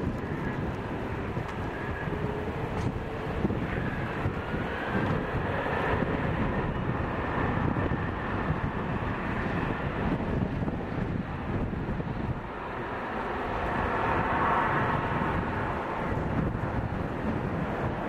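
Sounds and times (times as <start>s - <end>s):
faint high jet whine: 0.0s - 18.0s
jet engines rumbling on takeoff: 0.0s - 18.0s.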